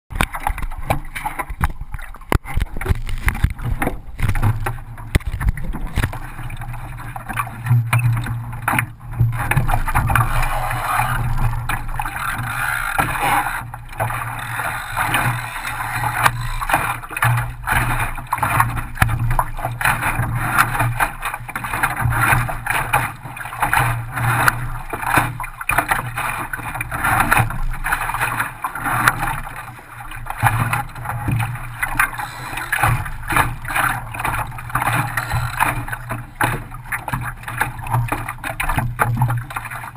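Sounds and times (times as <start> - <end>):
knocks and bumps through boat: 0.1 - 39.9
water rushing along boat hull: 0.1 - 39.9.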